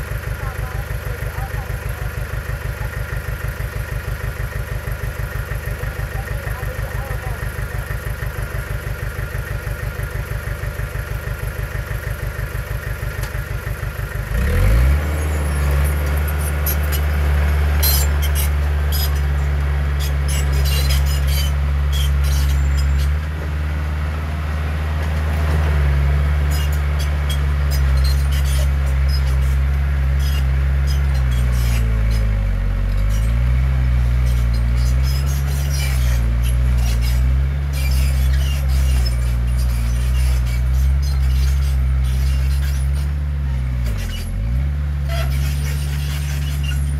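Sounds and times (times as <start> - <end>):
heavy diesel engine: 0.0 - 46.9.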